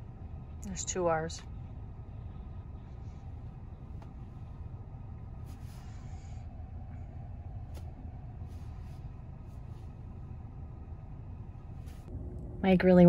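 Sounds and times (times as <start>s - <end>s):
low rumble in car cabin: 0.0s - 13.0s.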